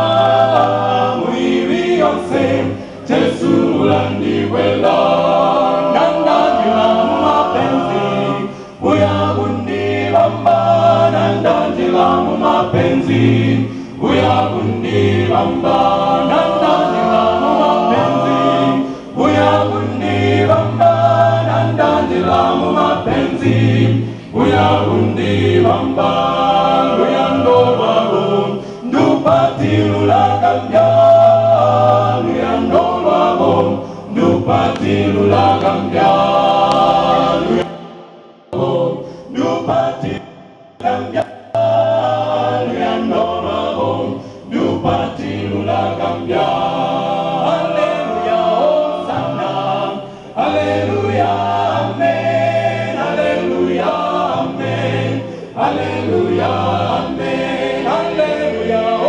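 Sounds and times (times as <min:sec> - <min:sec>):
gospel choir singing in harmony: 0:00.0 - 0:59.0.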